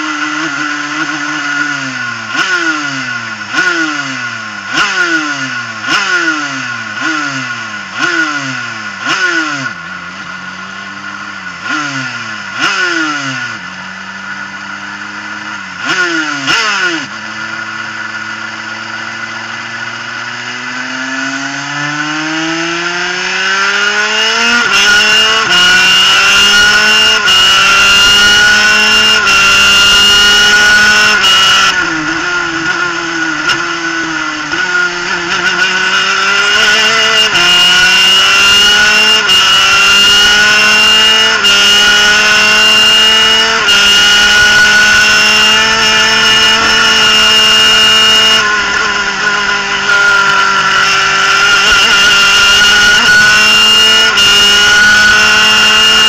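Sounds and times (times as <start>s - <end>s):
two-stroke kart engine: 0.0s - 56.0s.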